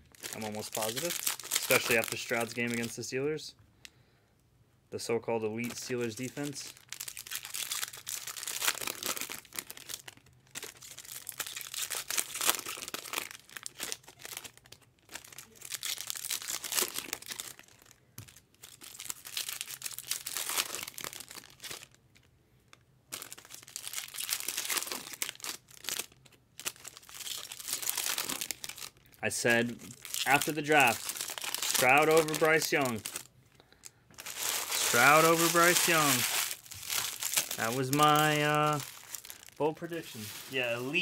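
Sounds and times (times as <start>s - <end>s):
foil wrappers crinkling and tearing: 0.0s - 3.0s, 5.6s - 22.3s, 23.1s - 41.0s.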